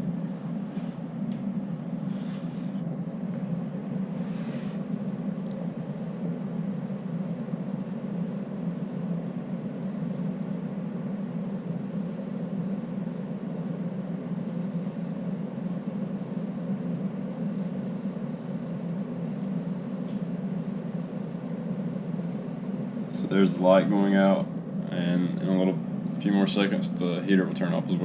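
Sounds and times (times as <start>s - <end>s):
electric heater whirring: 0.0s - 28.0s.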